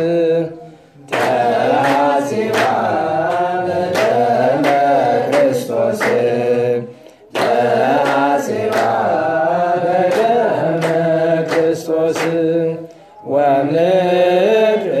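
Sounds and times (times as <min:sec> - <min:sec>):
voices chanting a hymn: 0:00.0 - 0:15.0.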